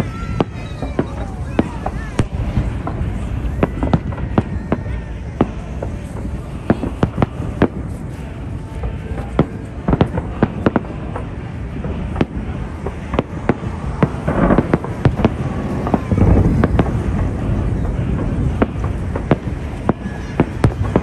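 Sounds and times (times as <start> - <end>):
fireworks bangs and cracks: 0.0 - 21.0
steady rumble: 0.0 - 21.0.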